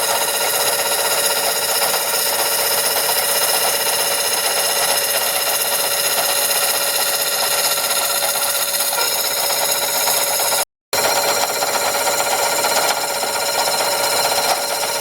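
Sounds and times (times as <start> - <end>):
lathe cutting metal: 0.0 - 15.0.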